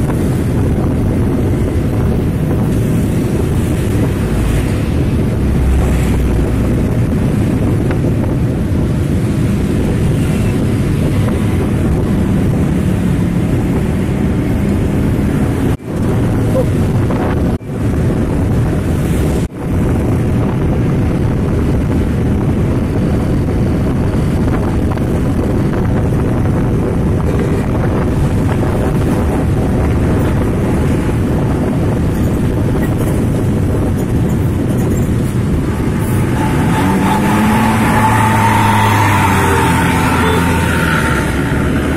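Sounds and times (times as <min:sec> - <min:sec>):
road and engine noise: 0:00.0 - 0:41.9
wind rushing over microphone: 0:00.0 - 0:41.9.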